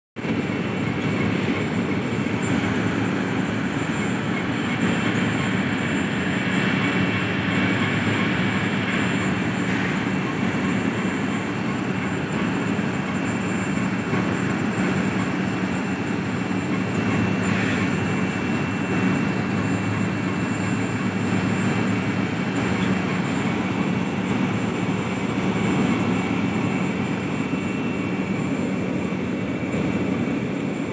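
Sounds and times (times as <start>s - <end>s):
conveyor belt rumbling: 0.2s - 30.9s
thin steady whine: 0.2s - 30.9s.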